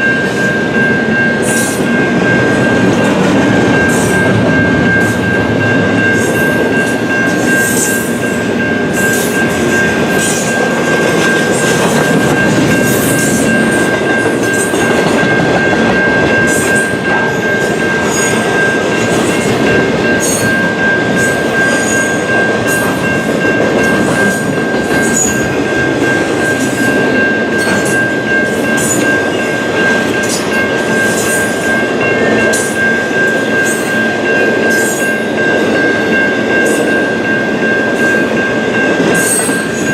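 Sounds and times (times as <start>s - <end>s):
rumble of rail cars rolling: 0.0s - 39.9s.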